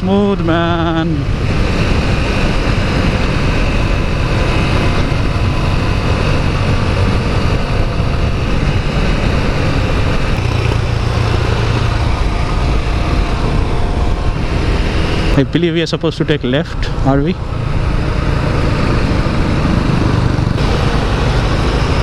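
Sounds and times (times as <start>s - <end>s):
motorcycle engine cruising: 0.0s - 22.0s
wind rush on microphone: 0.0s - 22.0s.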